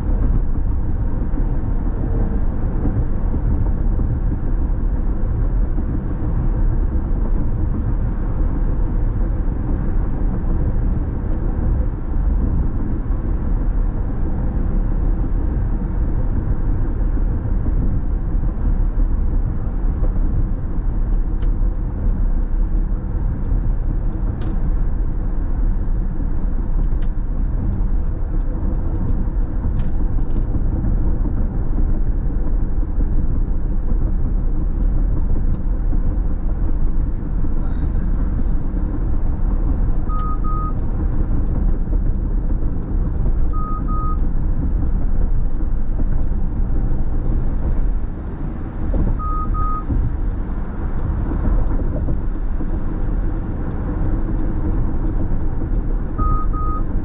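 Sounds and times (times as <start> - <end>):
car engine hum: 0.0 - 57.0
road and tyre noise: 0.0 - 57.0.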